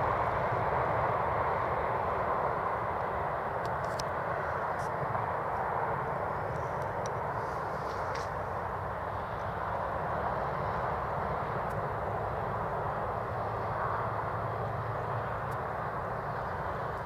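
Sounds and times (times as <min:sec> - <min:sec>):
jet engines on runway: 0:00.0 - 0:17.0.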